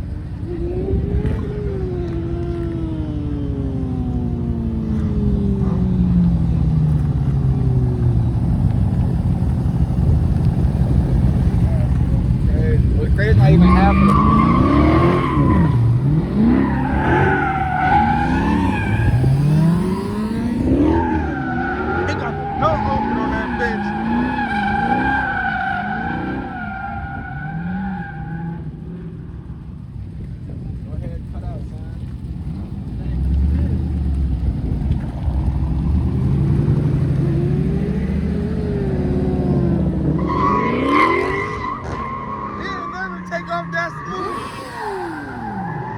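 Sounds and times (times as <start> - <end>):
tires squealing: 0.0 - 29.6, 31.7 - 45.9
car engine revving: 0.0 - 45.9.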